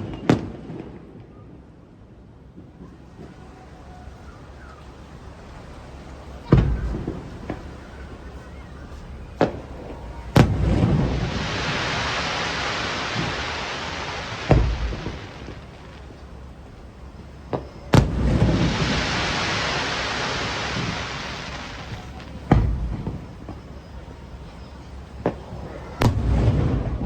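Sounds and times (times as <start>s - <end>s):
crackling hiss: 2.4s - 27.0s
fireworks bangs: 2.5s - 27.0s.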